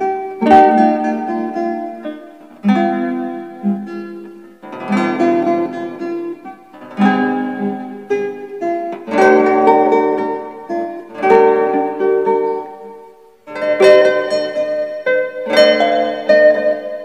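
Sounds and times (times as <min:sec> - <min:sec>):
fingerstyle classical guitar: 0:00.0 - 0:17.0.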